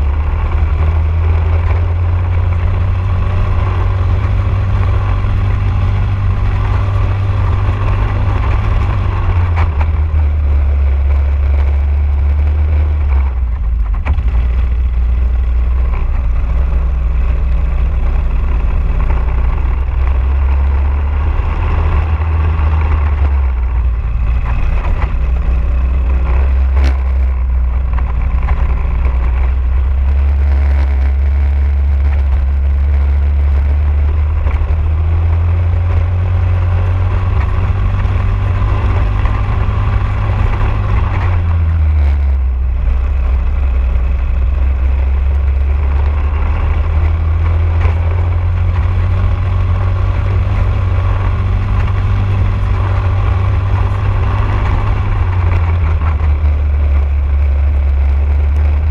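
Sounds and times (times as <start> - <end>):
kart engine racing: 0.0 - 58.9.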